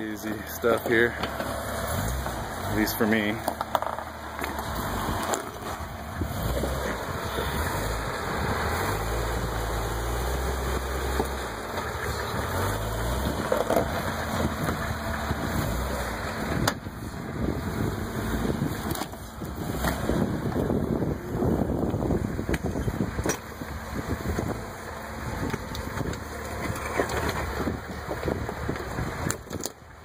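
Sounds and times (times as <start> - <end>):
car engine at low revs: 0.0 - 30.0.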